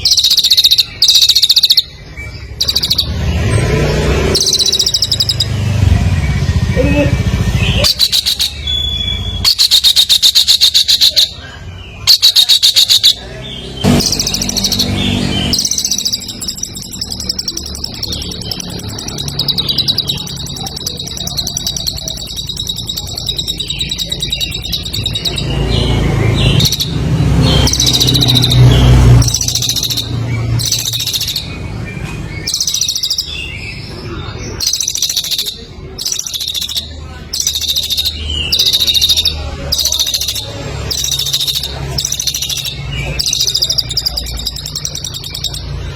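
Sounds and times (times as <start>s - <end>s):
songbird singing buzzy trills: 0.0s - 45.9s.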